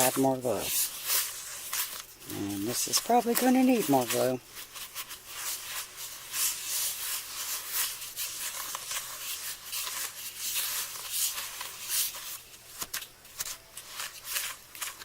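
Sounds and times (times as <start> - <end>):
stick stirring gritty mix: 0.0 - 15.0.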